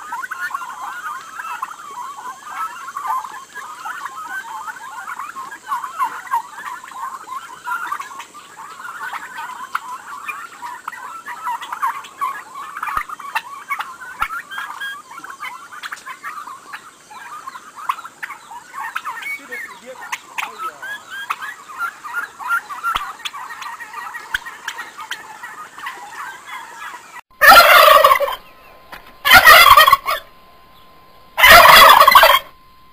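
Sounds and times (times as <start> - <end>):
turkey poults calling: 0.0 - 32.6.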